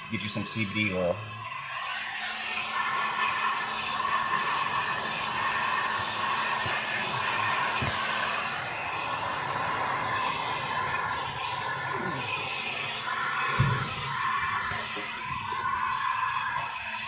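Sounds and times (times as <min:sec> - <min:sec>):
heat gun fan whirring: 0:00.0 - 0:17.0.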